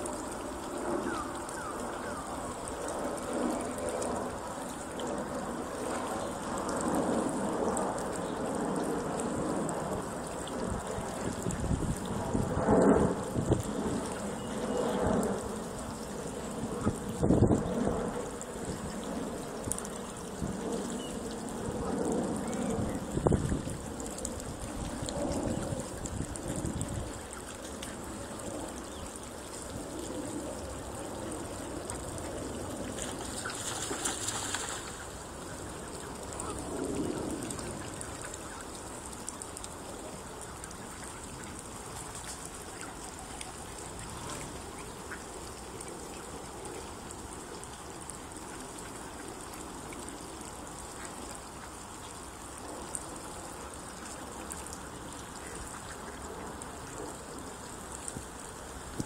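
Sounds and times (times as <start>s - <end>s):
water: 0.0s - 59.0s
wind: 0.0s - 59.0s.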